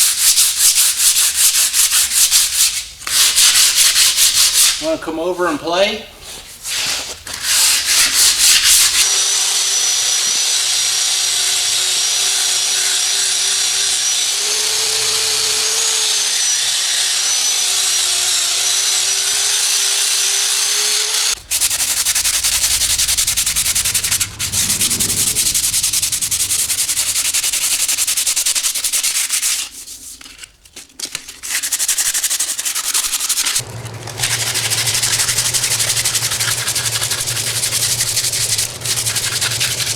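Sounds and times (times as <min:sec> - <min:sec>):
sanding disc grinding filler: 0:00.0 - 0:05.0, 0:06.4 - 0:30.4, 0:31.1 - 0:39.9.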